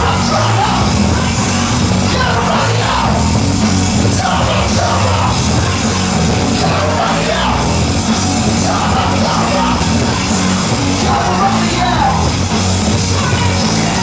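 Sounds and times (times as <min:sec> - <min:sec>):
loud bass-heavy music: 0:00.0 - 0:14.0
shouted vocals: 0:00.0 - 0:14.0.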